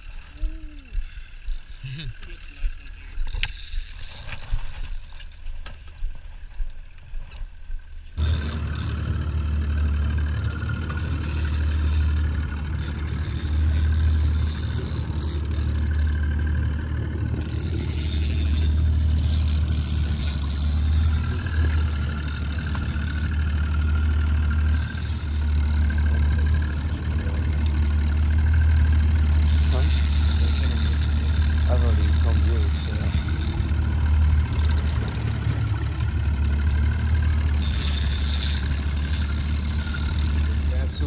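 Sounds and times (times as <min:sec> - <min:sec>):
water noise: 0:00.0 - 0:41.0
outboard motor humming: 0:08.0 - 0:41.0.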